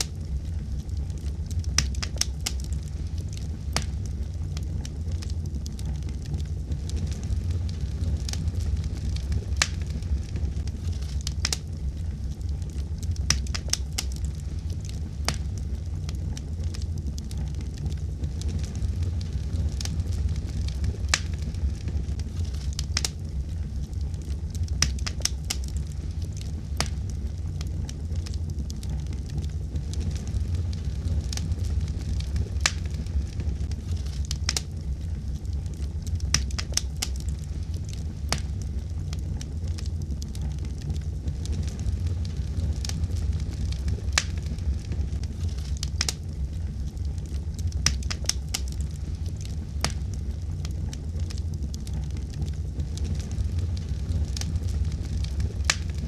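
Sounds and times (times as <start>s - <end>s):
low rumble of flames: 0.0s - 56.0s
wood fire pops and snaps: 0.0s - 56.0s.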